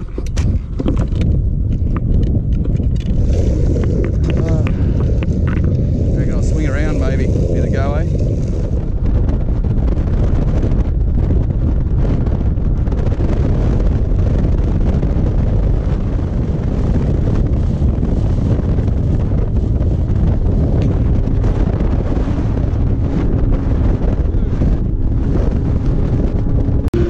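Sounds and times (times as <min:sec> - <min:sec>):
boat hull on water: 0:00.0 - 0:27.0
outboard motor: 0:00.0 - 0:27.0
wind buffeting microphone: 0:00.0 - 0:27.0.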